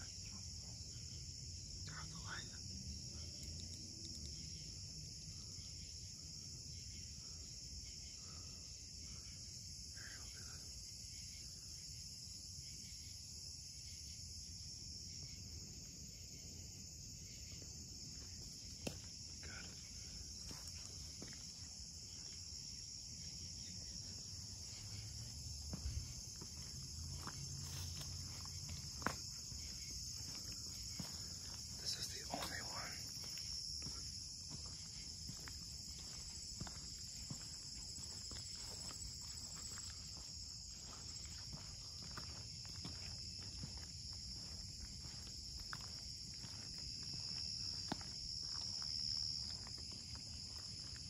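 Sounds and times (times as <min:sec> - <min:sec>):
high-pitched insect chorus: 0:00.0 - 0:51.0.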